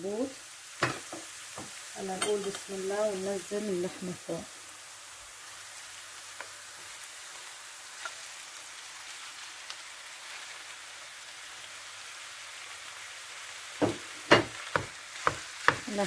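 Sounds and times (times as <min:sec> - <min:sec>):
meat and onions sizzling in pan: 0:00.0 - 0:16.0.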